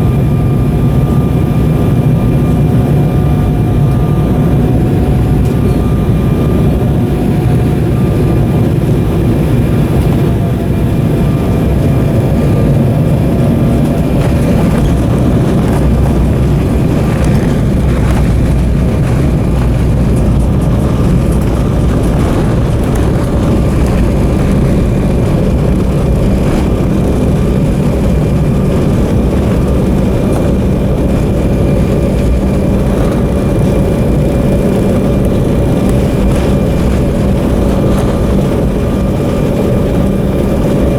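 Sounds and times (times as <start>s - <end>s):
airliner cabin engine and airflow noise: 0.0s - 40.9s.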